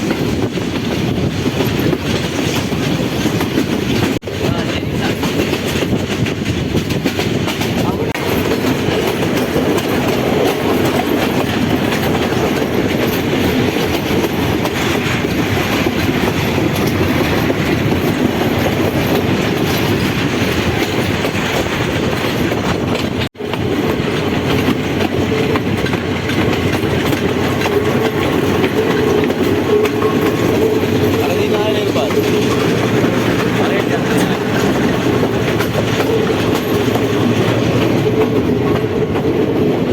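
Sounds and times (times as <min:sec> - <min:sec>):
passenger train rumbling: 0:00.0 - 0:39.9
wheels clattering over rail joints: 0:00.0 - 0:39.9.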